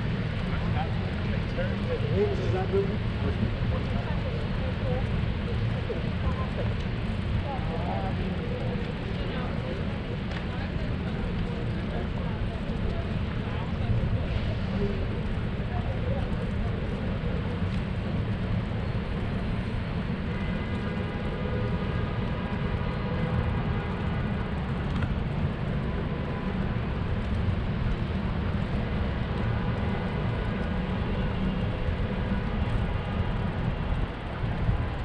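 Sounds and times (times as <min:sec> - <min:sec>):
faint traffic hum: 0:00.0 - 0:35.0
wind and road noise: 0:00.0 - 0:35.0.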